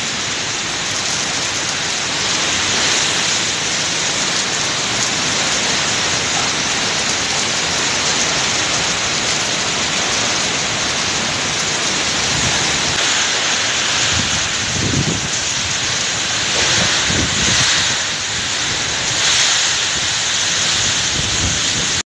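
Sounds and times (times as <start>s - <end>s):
heavy driving rain: 0.0s - 22.0s
strong wind: 0.0s - 22.0s.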